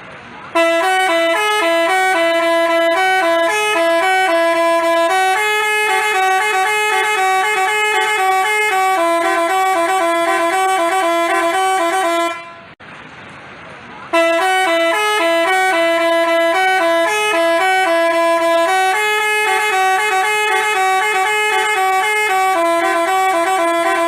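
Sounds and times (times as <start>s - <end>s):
musical bus horn playing tune: 0.5s - 12.8s, 14.1s - 24.0s.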